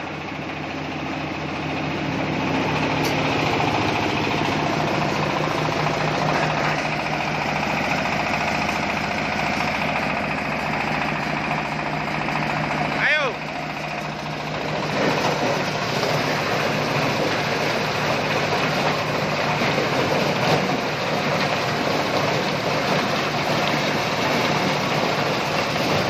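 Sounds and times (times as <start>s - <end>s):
corn sheller machine clattering: 0.0s - 26.0s.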